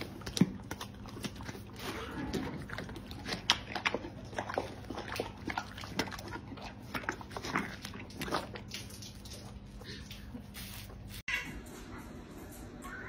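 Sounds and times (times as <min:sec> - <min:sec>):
horse chewing watermelon: 0:00.0 - 0:10.6.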